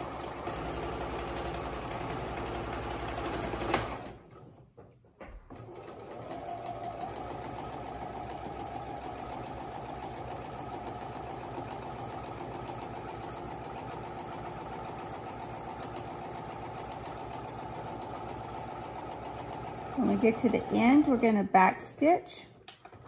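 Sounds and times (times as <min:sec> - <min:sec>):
sewing machine stitching: 0:00.0 - 0:04.6, 0:05.5 - 0:21.4.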